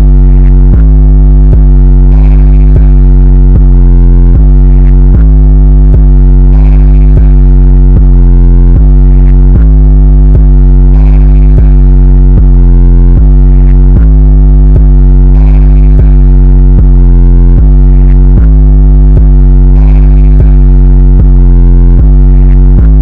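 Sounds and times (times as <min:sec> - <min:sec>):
distorted synth pattern: 0:00.0 - 0:23.0
heavy deep bass: 0:00.0 - 0:23.0.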